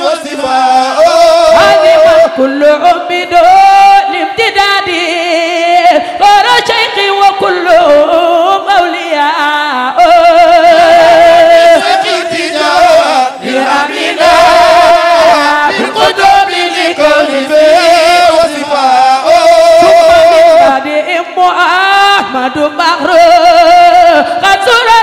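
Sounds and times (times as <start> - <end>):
voices singing devotional chant: 0.0 - 25.0.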